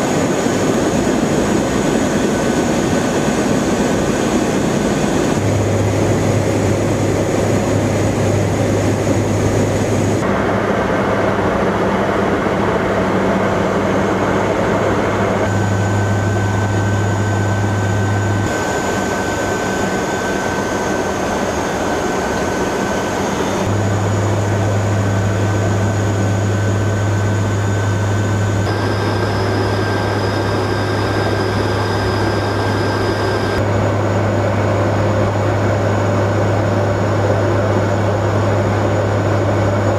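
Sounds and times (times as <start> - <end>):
aircraft engines and rotors droning: 0.0 - 39.9.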